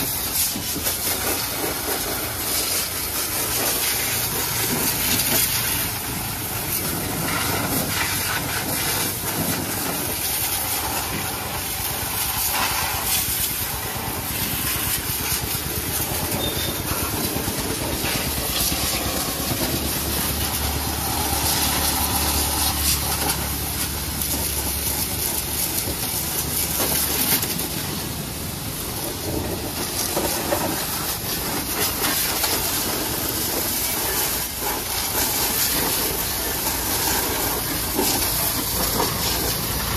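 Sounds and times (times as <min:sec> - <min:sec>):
pressure washer jet hissing: 0:00.0 - 0:39.9.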